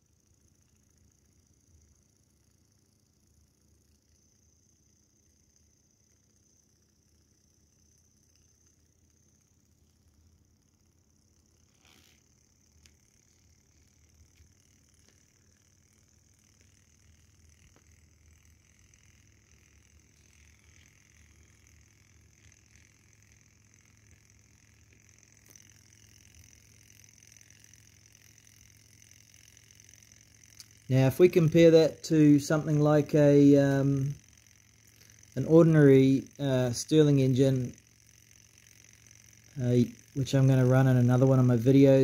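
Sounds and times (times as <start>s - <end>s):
faint hot air engine chuffing: 0.0s - 42.0s.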